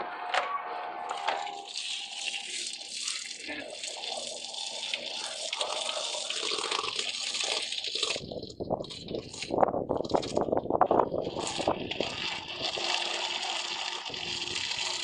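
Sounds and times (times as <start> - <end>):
water gushing into washing machine: 1.1 - 15.0.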